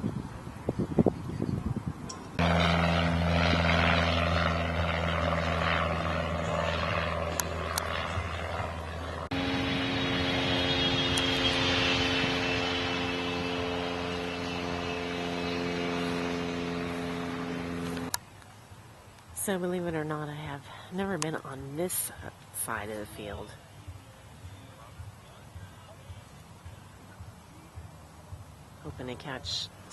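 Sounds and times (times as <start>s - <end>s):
aircraft propeller engines droning: 0.2s - 29.9s.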